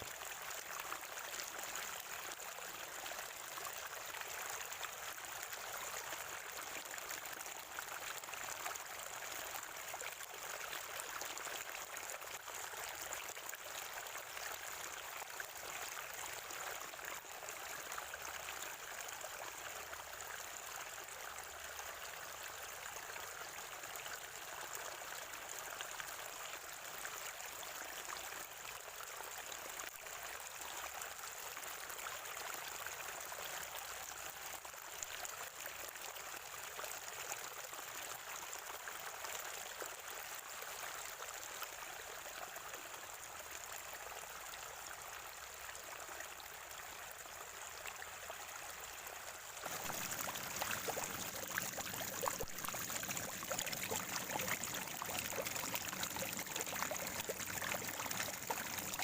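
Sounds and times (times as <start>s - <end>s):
spring water flowing and gurgling: 0.0s - 59.0s.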